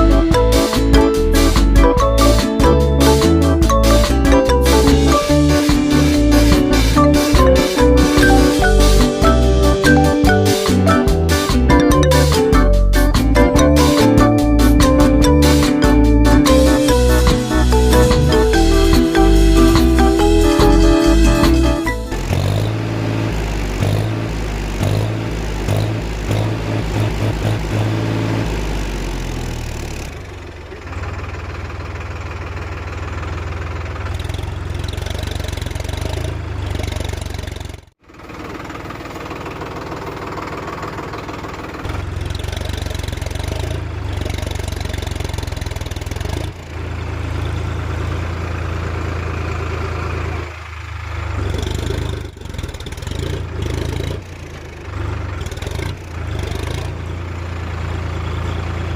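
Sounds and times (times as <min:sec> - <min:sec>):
tractor diesel engine chugging: 0:00.0 - 0:58.9.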